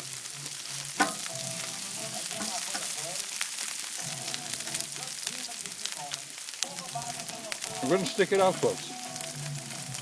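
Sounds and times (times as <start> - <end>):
food sizzling in a skillet: 0.0 - 10.0.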